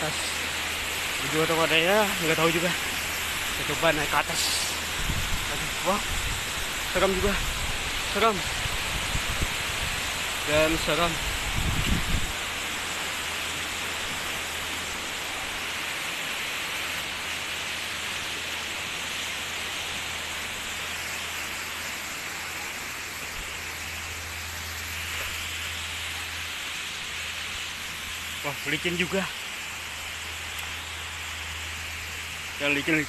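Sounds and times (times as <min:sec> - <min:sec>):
waterfall rushing water: 0:00.0 - 0:33.0.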